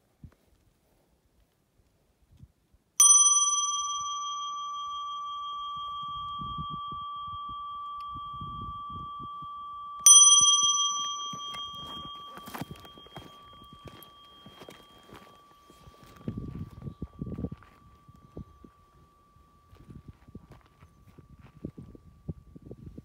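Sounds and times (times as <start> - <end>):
brass bowl bell ringing: 3.0 - 22.8.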